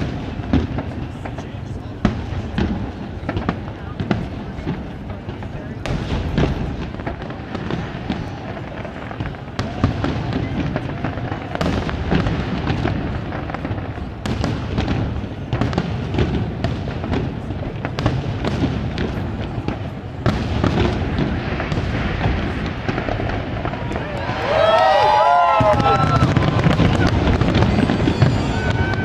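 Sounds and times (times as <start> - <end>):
fireworks booming: 0.0 - 29.0
fireworks crackling: 0.0 - 29.0.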